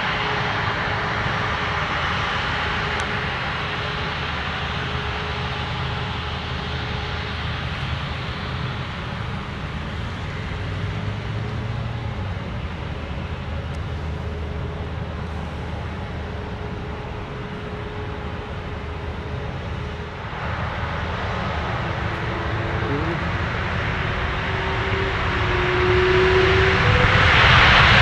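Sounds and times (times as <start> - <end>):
jet engines spooling up: 0.0 - 28.0
low rumble: 1.1 - 28.0.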